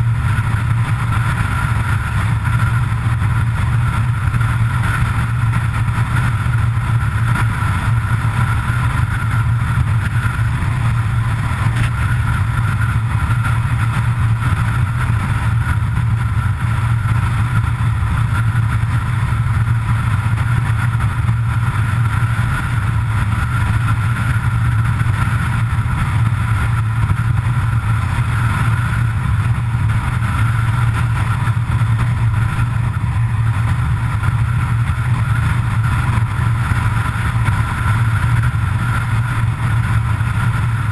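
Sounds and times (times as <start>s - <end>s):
strong low hum: 0.0s - 40.9s
vehicle engine tyres and wind noise: 0.0s - 40.9s.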